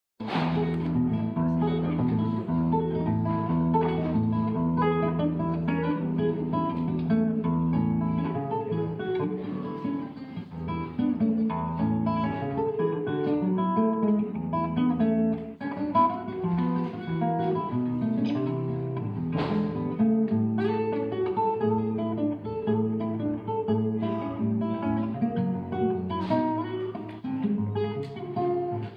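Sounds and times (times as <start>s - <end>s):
fingerstyle acoustic guitar: 0.2s - 28.9s.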